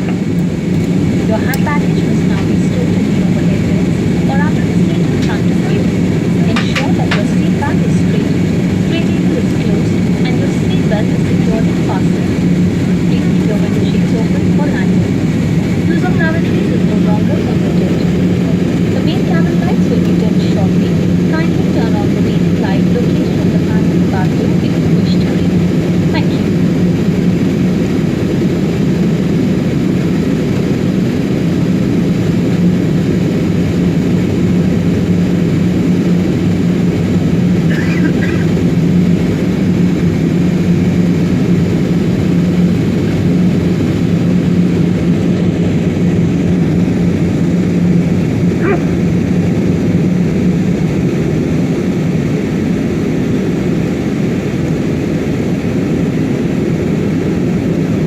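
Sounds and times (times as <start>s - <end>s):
jet engines droning: 0.0s - 58.0s
low cabin hum: 0.0s - 58.0s.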